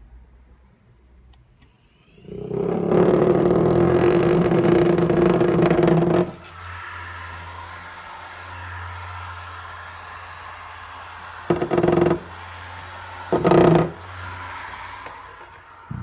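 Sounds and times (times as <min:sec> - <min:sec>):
massager buzzing hum: 0:02.2 - 0:16.0.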